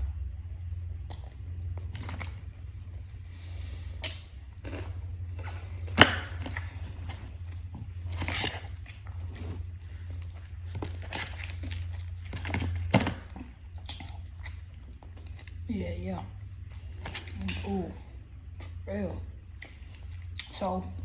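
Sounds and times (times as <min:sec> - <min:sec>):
crunching fried chicken: 0:00.0 - 0:15.7, 0:16.4 - 0:18.8
steady low hum: 0:00.0 - 0:21.0.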